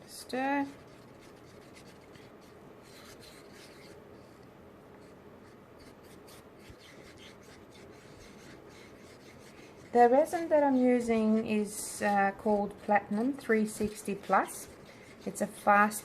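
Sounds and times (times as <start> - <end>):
stir stick scraping a cup: 0.2 - 4.0, 5.8 - 16.0.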